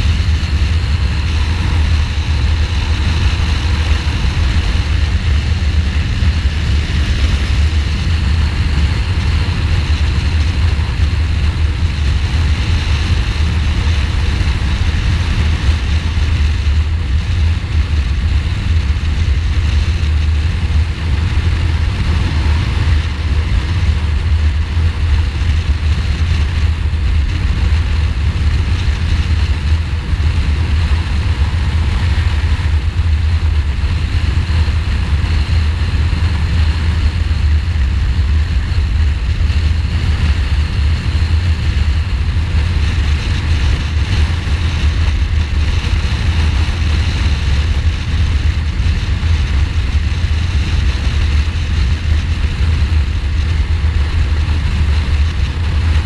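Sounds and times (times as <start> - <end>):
motorcycle engine cruising: 0.0 - 56.0
wind on microphone: 0.0 - 56.0.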